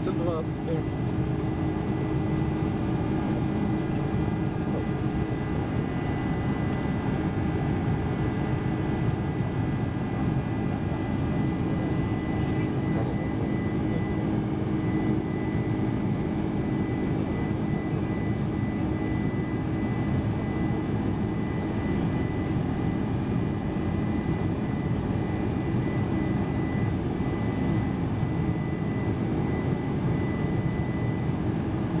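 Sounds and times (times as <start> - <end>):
aircraft cabin engine rush: 0.0 - 32.0.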